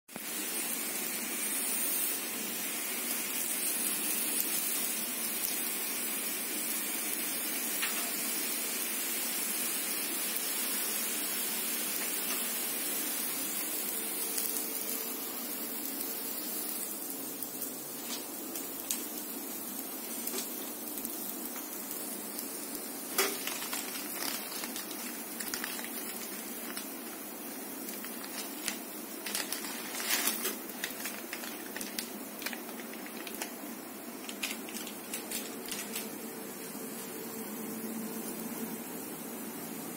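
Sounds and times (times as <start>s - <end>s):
hot oil sizzling and crackling: 0.1s - 39.9s.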